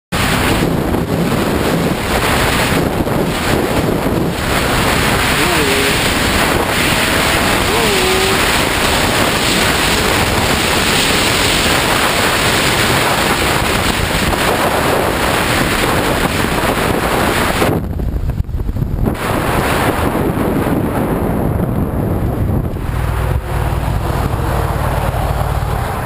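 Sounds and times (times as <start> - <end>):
motorcycle low rumble: 0.2 - 26.0
wind rushing on helmet camera: 0.2 - 26.0.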